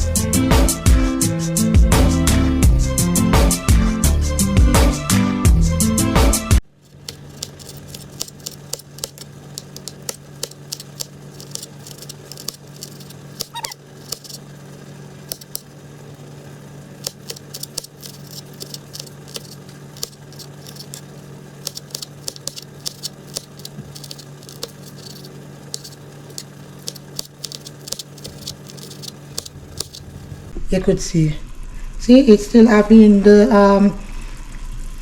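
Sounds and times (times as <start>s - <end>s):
steady low hum: 6.6s - 35.0s.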